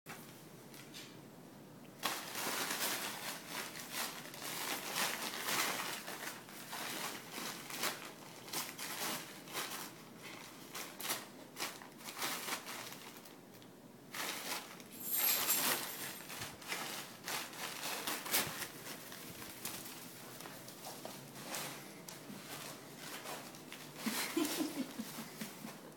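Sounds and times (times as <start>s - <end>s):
newspaper crinkling and rustling: 2.0s - 25.8s.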